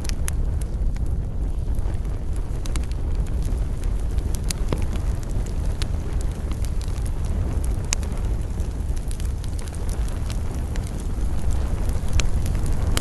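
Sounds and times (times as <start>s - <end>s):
rumble of campfire flames: 0.0s - 13.0s
wood crackling and popping: 0.0s - 13.0s.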